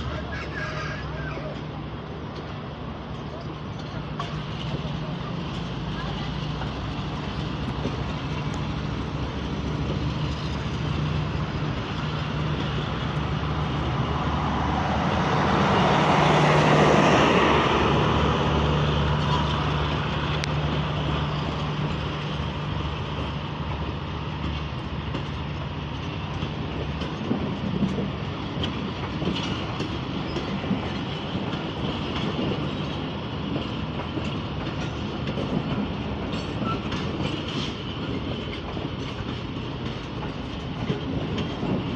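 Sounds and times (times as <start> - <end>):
locomotive engine droning: 0.0 - 41.9
train wheel clatter: 0.0 - 41.9.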